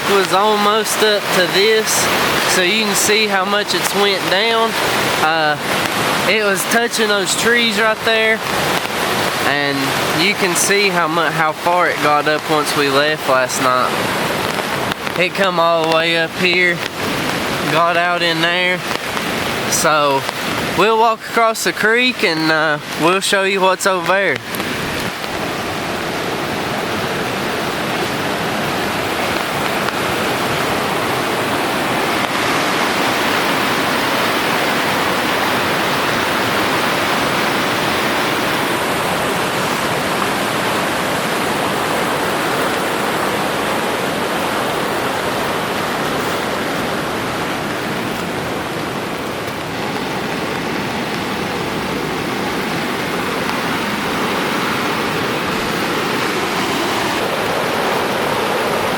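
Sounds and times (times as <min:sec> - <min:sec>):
creek rushing: 0:00.0 - 0:58.9.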